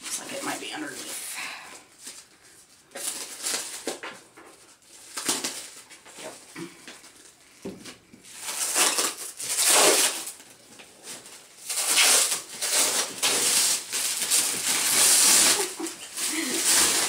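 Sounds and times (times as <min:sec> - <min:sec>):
plastic wrap crinkling: 0:00.1 - 0:17.0.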